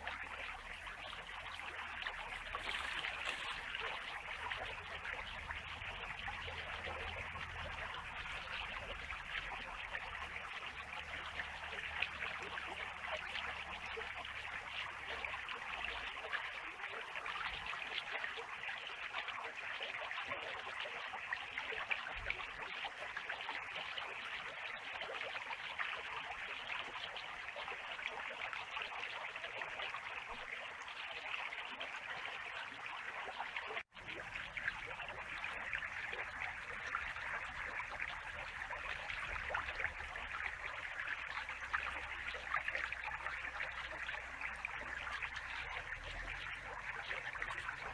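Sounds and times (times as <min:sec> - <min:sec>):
creek babbling over stones: 0:00.0 - 0:47.9.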